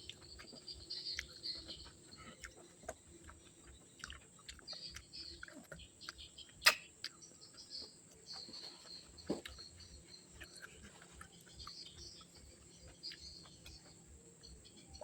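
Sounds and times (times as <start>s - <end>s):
insects chirping: 0.0s - 15.0s
soft chewing: 0.0s - 15.0s.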